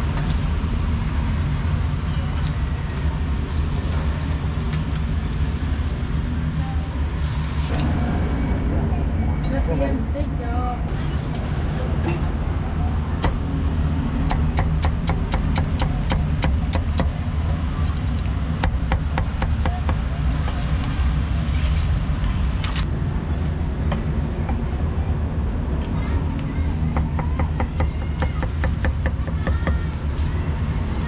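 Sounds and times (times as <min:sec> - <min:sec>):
low rumble of street traffic: 0:00.0 - 0:31.0.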